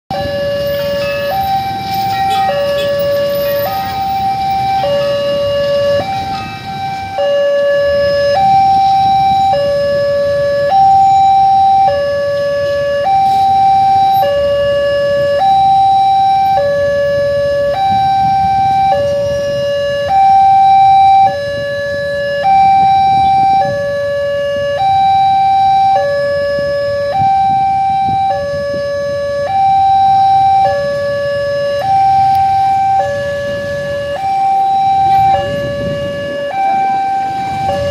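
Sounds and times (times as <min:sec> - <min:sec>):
level crossing two-tone alarm: 0:00.1 - 0:37.9
road traffic: 0:00.1 - 0:37.9.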